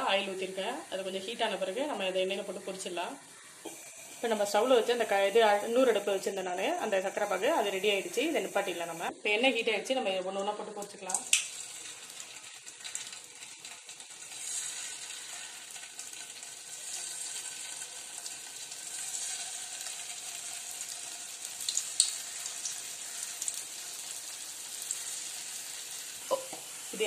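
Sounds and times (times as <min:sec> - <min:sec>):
dough frying in hot oil: 0:00.0 - 0:09.1, 0:10.1 - 0:27.0.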